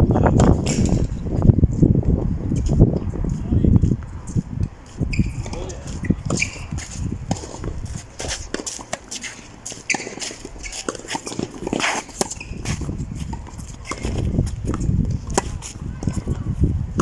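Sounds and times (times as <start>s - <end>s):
footsteps on clay court: 0.3s - 17.0s.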